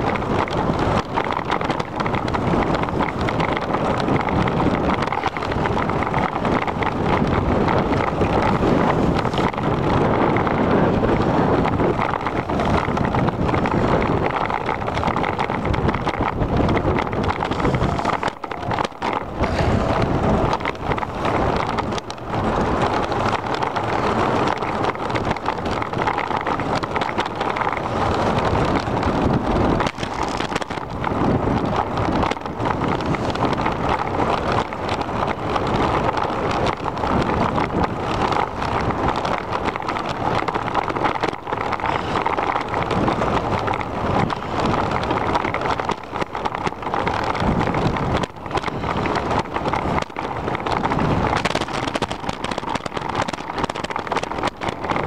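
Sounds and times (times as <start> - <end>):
bicycle bumps and rattles: 0.0 - 55.0
wind rushing over microphone: 0.0 - 55.0.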